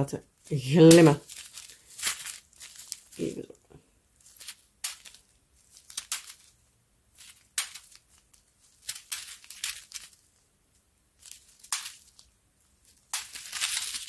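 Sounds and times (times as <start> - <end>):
plastic bags crinkling: 0.4 - 14.0.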